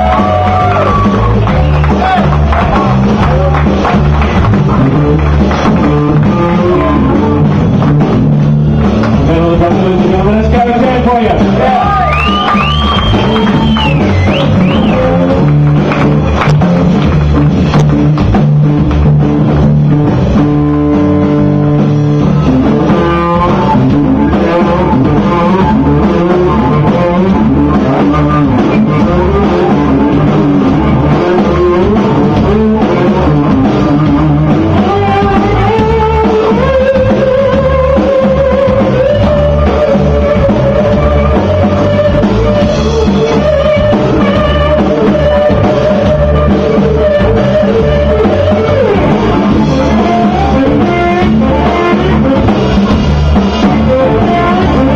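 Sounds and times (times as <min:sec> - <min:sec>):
drum kit: 0:00.0 - 0:54.9
electric guitar melody: 0:00.0 - 0:54.9.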